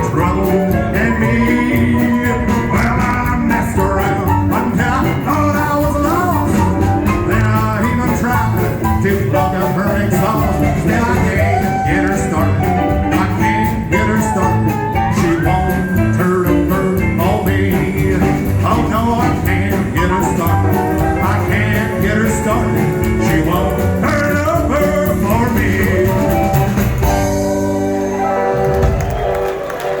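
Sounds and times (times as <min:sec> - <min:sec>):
live rock and roll band: 0:00.0 - 0:30.0.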